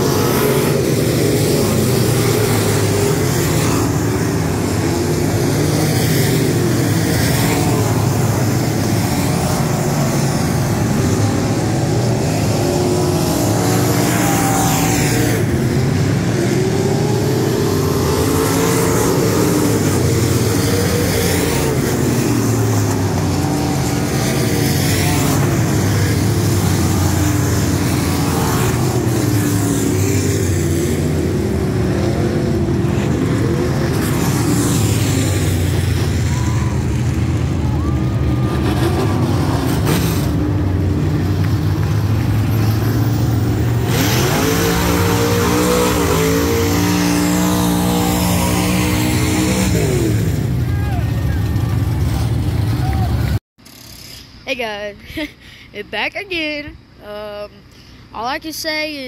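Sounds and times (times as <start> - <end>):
race car engines roaring: 0.0 - 55.4.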